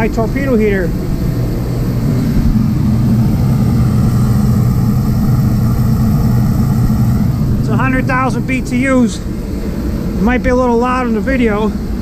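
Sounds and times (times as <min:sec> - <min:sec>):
heater fan and burner rushing: 0:00.0 - 0:12.0
low hum: 0:00.0 - 0:12.0.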